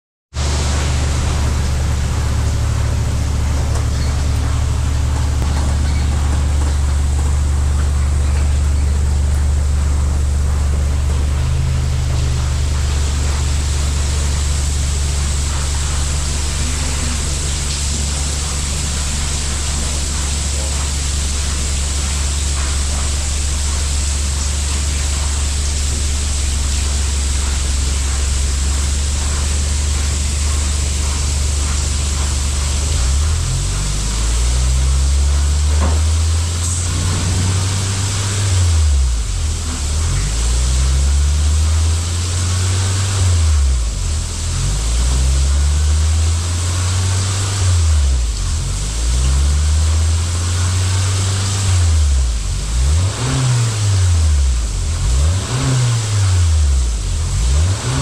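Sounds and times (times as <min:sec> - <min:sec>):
car engine idling and revving: 0:00.3 - 0:58.0.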